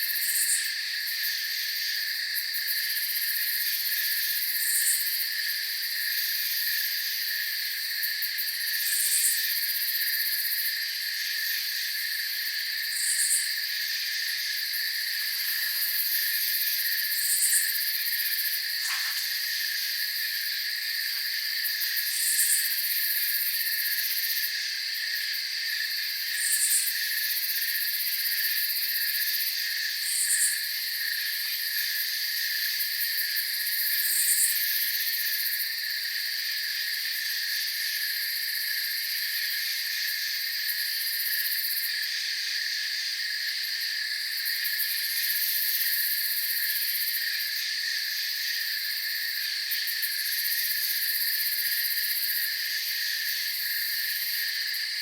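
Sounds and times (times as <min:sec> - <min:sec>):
cricket chorus trilling: 0:00.0 - 0:55.0.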